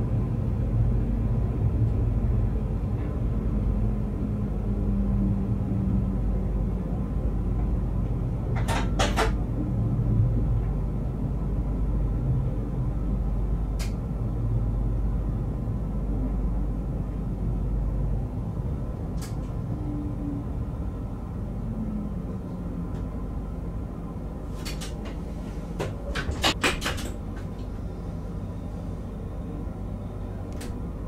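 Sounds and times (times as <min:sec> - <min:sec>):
train rumbling slowly: 0:00.0 - 0:31.0.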